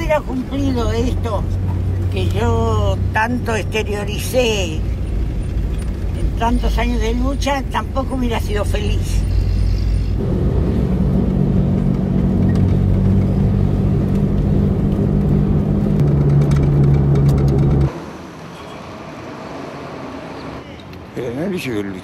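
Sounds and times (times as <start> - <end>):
car engine running: 0.0 - 17.9
street noise: 0.0 - 22.0.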